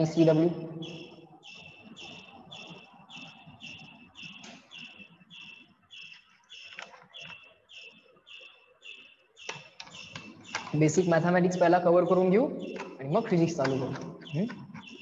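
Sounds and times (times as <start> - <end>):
cricket chirping: 0.7 - 12.9.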